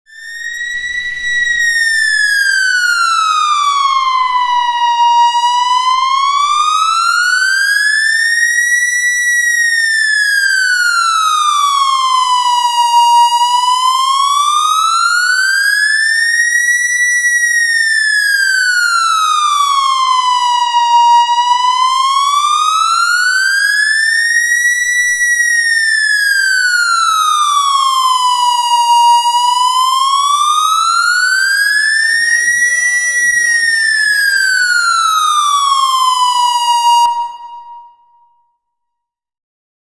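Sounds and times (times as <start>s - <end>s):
police siren wailing: 0.1s - 38.3s.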